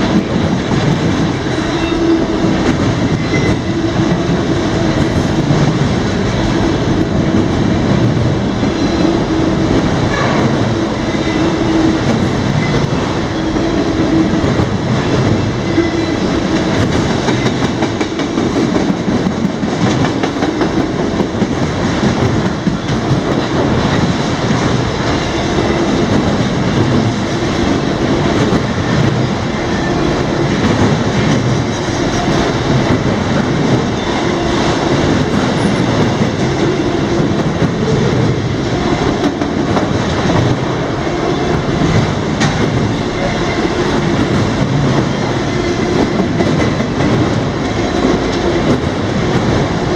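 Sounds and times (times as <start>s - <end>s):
freight train rumbling past: 0.0s - 49.9s
wheels clacking over rail joints: 0.0s - 49.9s.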